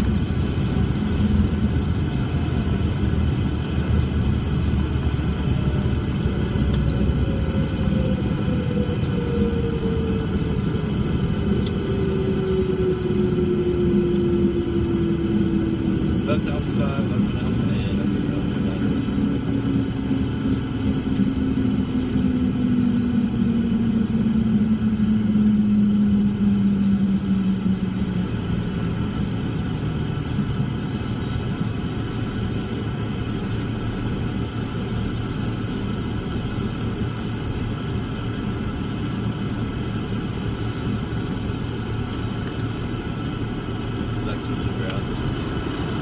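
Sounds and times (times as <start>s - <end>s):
propeller plane engines droning: 0.0s - 46.0s.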